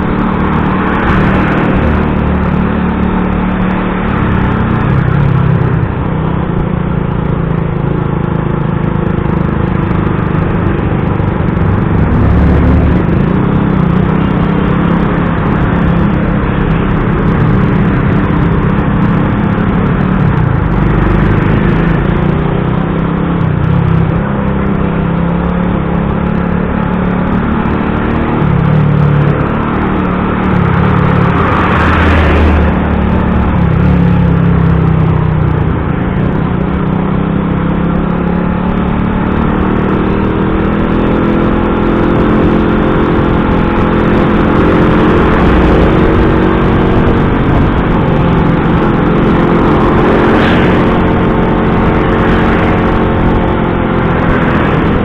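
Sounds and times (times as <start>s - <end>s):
vehicle engines in traffic: 0.0s - 55.0s.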